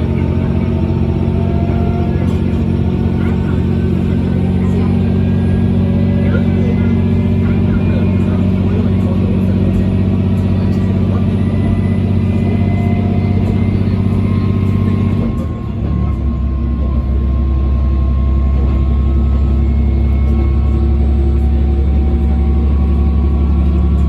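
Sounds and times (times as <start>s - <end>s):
diesel railcar engine drone: 0.0s - 24.0s.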